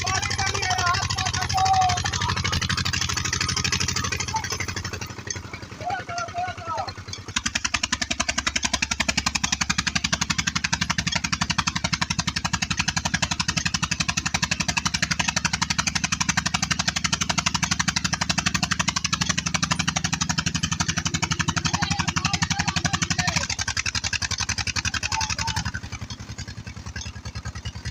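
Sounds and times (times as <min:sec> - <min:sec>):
diesel pump engine knocking: 0:00.0 - 0:27.9.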